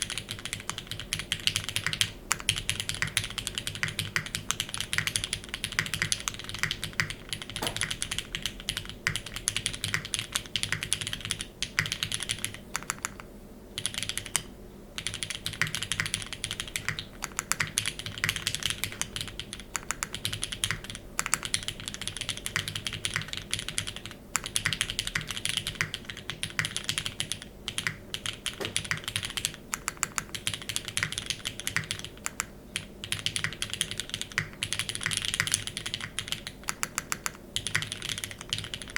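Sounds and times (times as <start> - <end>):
fast typing on mechanical keyboard: 0.0 - 13.2, 13.8 - 38.9.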